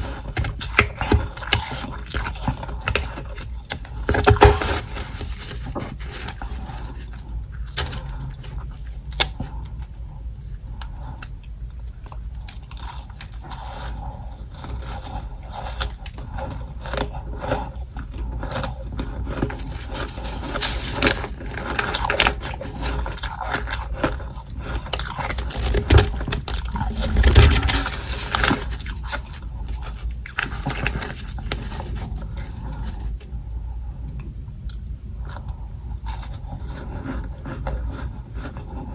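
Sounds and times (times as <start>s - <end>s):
frost crunching and chewing: 0.0s - 38.9s.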